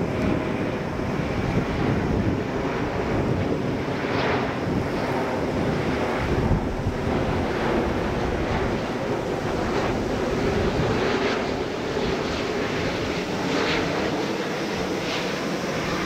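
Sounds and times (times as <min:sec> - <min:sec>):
jet engine rushing noise: 0:00.0 - 0:16.0
wind on the microphone: 0:00.0 - 0:16.0.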